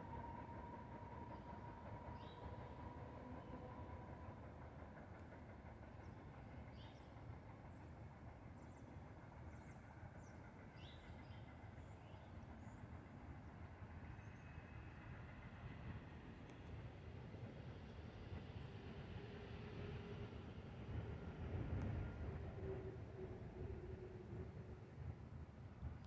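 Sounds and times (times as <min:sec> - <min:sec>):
distant electric train rumbling: 0:00.0 - 0:26.0.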